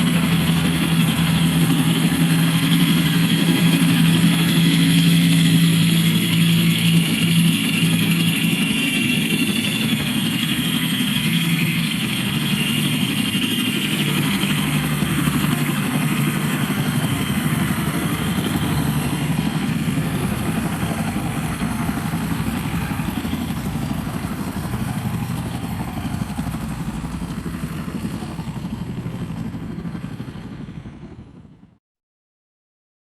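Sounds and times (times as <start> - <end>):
helicopter in flight: 0.0 - 31.8.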